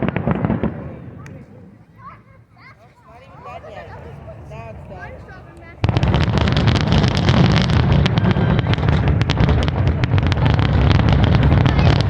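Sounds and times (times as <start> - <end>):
continuous heavy rumble: 0.0 - 12.0
fireworks bangs and crackles: 0.0 - 12.0.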